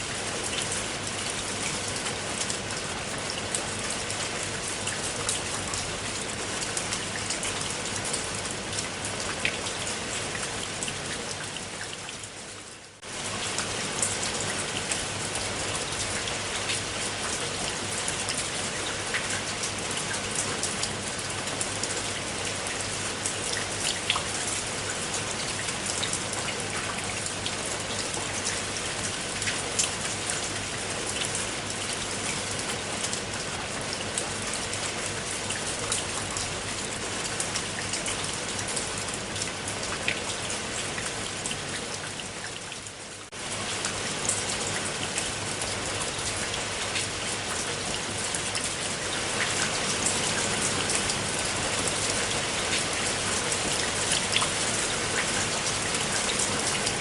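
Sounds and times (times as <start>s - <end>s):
raindrops striking a surface: 0.0s - 57.0s
steady rain falling: 0.0s - 57.0s.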